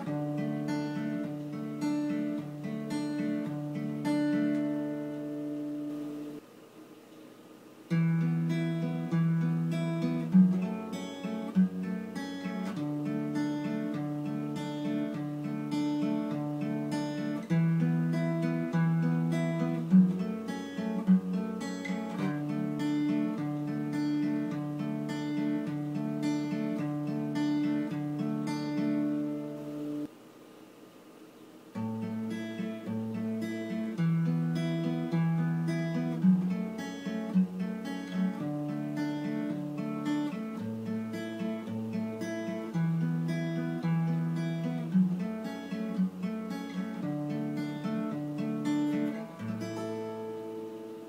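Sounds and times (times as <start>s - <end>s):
fingerpicked acoustic guitar: 0.0s - 6.4s, 7.9s - 30.1s, 31.7s - 51.0s.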